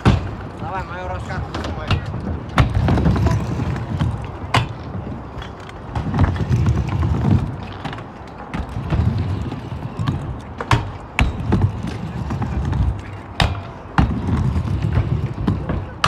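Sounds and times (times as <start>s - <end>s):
scooter wheels rolling on concrete: 0.0s - 16.0s.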